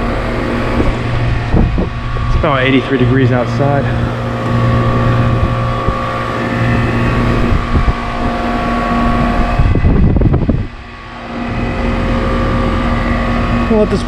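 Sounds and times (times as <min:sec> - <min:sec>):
air-conditioner condenser humming: 0:00.0 - 0:14.0.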